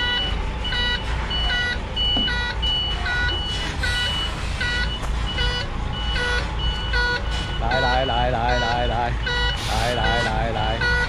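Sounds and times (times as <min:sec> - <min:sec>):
truck diesel engine rumble: 0:00.0 - 0:11.0
two-tone reversing alarm beeping: 0:00.0 - 0:11.0.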